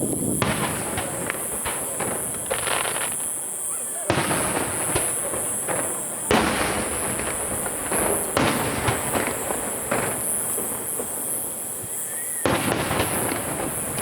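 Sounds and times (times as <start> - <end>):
fireworks bursting: 0.0 - 14.0
fireworks crackling: 0.0 - 14.0.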